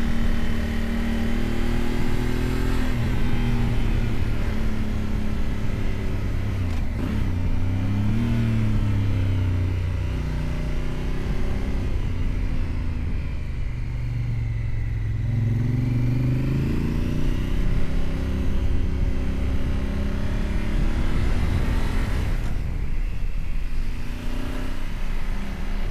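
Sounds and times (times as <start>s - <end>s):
motorcycle engine revving: 0.0s - 23.2s.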